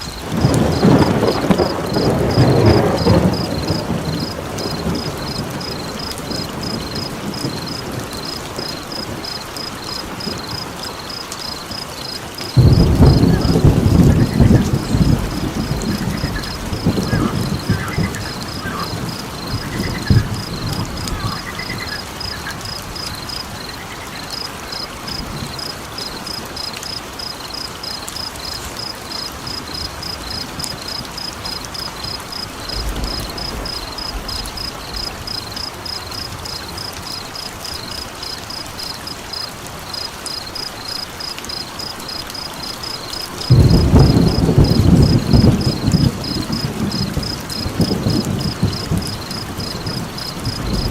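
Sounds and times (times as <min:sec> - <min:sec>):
deep rumbling like thunder: 0:00.0 - 0:26.8, 0:27.6 - 0:38.0, 0:43.4 - 0:50.9
steady hiss like rain: 0:00.0 - 0:50.9.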